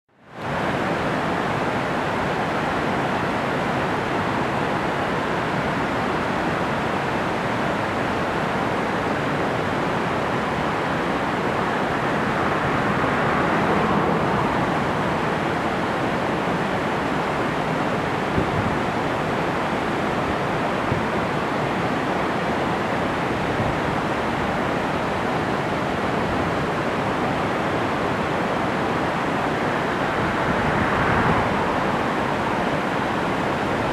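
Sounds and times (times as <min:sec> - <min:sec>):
white water rushing: 0:00.3 - 0:33.9.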